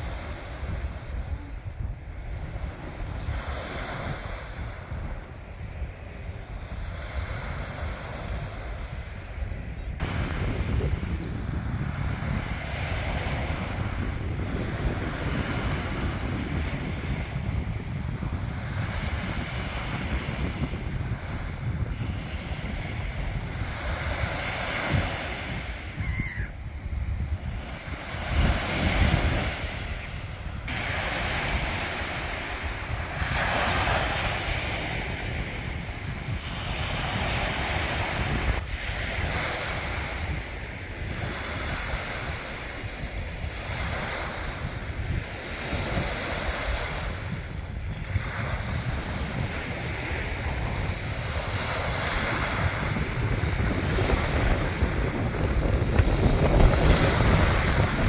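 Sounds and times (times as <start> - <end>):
sea waves washing on beach: 0.0 - 58.0
wind buffeting microphone: 0.0 - 58.0.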